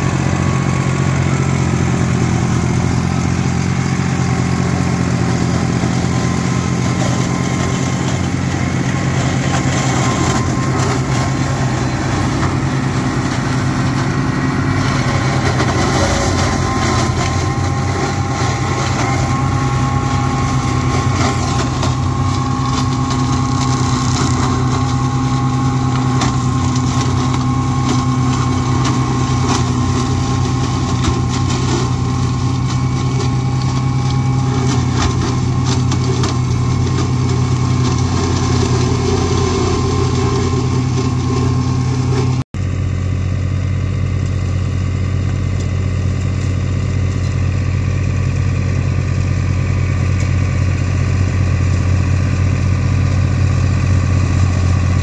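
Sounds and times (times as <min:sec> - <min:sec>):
flail mulcher whine: 0:00.0 - 0:55.0
tractor diesel engine running: 0:00.0 - 0:55.0.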